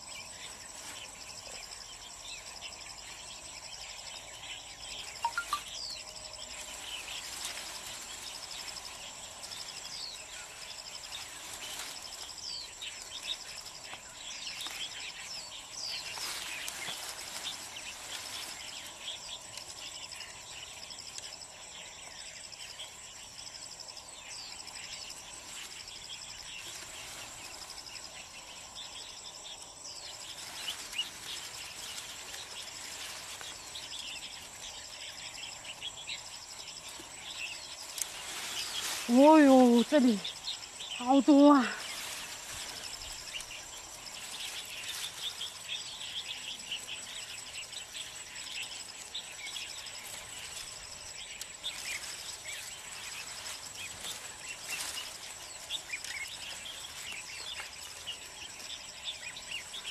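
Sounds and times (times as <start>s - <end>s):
birds chirping: 0.0s - 59.9s
insect trill: 0.0s - 59.9s
leafy branches rustling: 0.0s - 59.9s.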